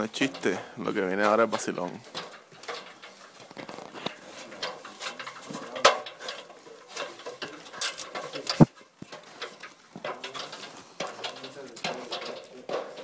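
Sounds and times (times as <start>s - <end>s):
climbing a metal ladder: 0.0s - 13.0s.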